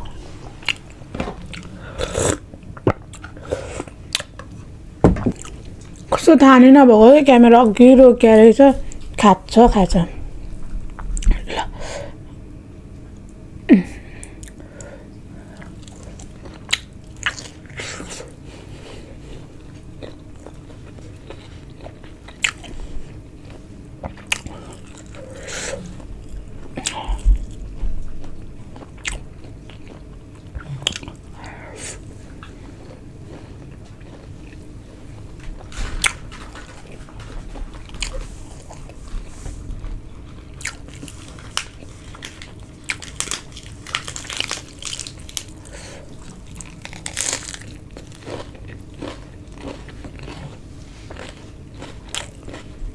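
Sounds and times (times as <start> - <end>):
person chewing food: 0.0 - 6.2, 14.2 - 52.9.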